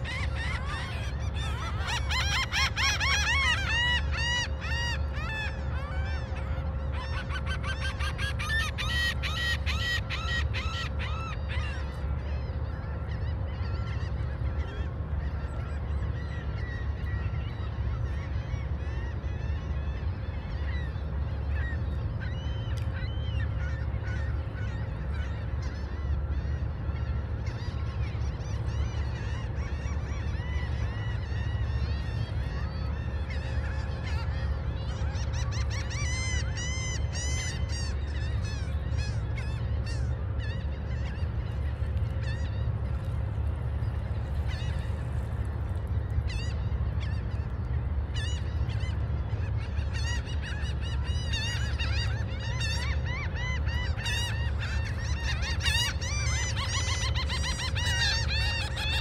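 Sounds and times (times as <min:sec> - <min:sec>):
faint hum: 0:00.0 - 0:59.0
gulls calling: 0:00.0 - 0:59.0.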